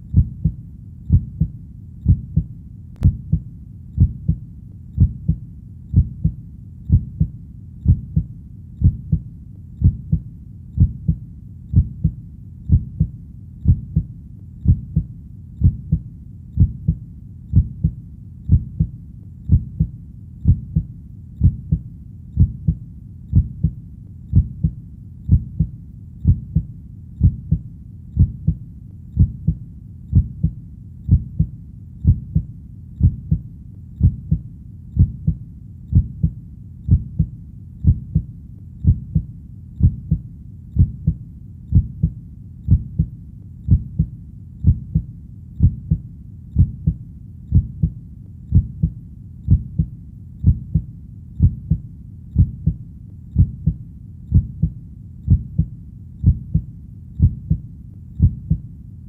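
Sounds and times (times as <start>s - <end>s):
heartbeat thuds: 0.0s - 4.4s, 5.0s - 28.6s, 29.2s - 43.1s, 43.7s - 58.7s
faint low rumble: 0.0s - 59.0s.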